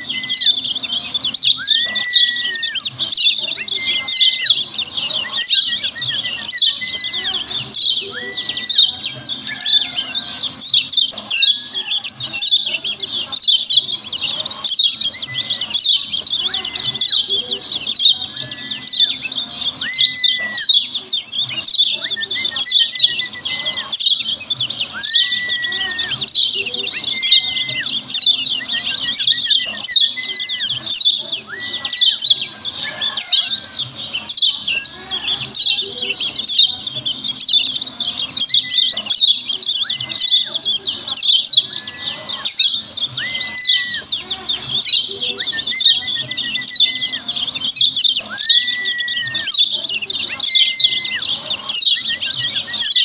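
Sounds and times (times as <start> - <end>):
bird chattering sharp calls: 0.0 - 53.0.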